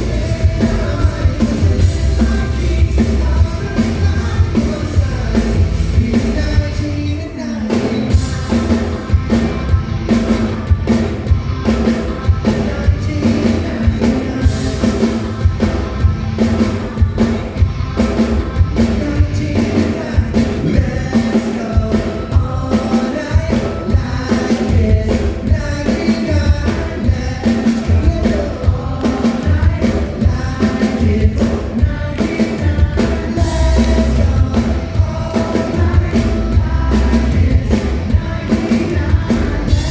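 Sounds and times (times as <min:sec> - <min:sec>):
pop-rock song with singing: 0:00.0 - 0:39.9.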